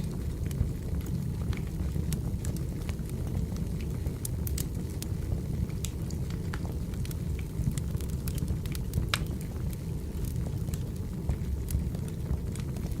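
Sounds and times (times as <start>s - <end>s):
fire crackles and pops: 0.0s - 13.0s
firewood burning: 0.0s - 13.0s.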